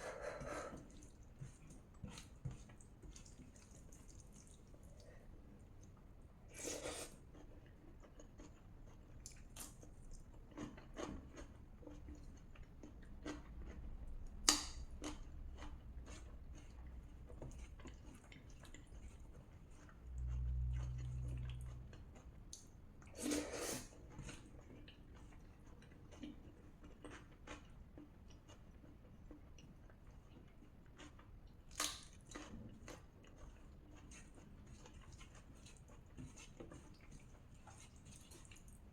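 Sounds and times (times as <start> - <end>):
person chewing: 0.0 - 5.2, 5.8 - 38.8.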